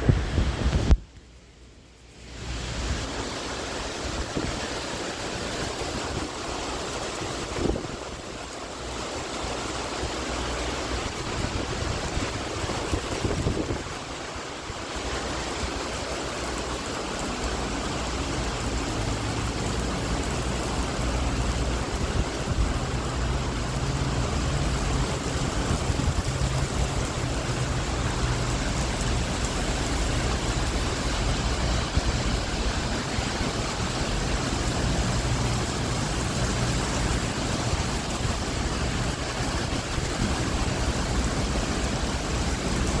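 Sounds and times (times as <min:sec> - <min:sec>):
wind and driving rain: 0:00.0 - 0:43.0.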